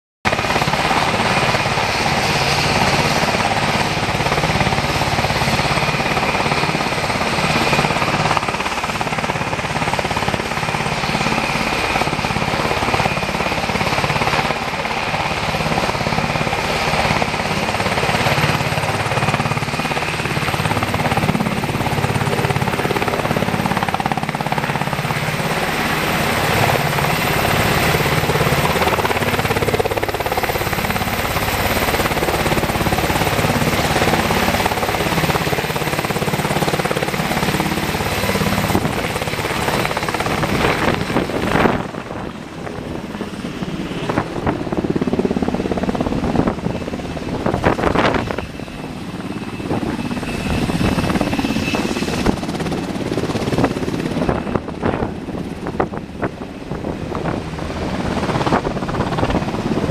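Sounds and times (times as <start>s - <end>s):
helicopter rotor beat: 0.3s - 59.9s
turbine whine: 0.5s - 59.9s.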